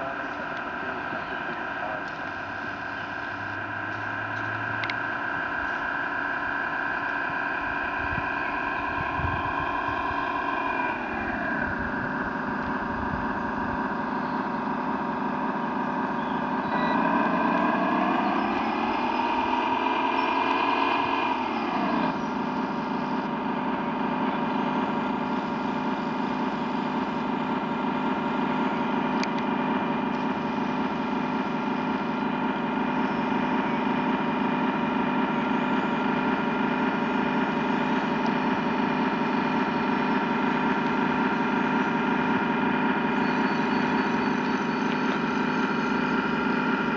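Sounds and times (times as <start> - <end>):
model truck engine idling and revving: 0.0 - 46.9.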